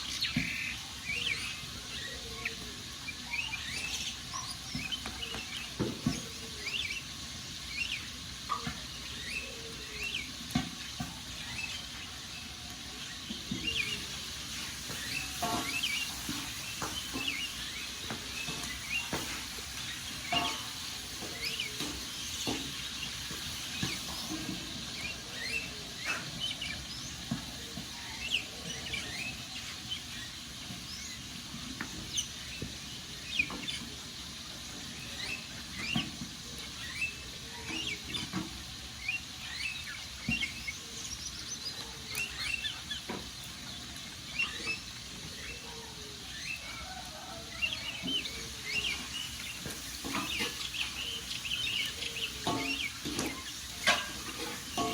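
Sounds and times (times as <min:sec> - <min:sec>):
birds chirping: 0:00.0 - 0:54.9
wood fire crackling: 0:00.0 - 0:54.9.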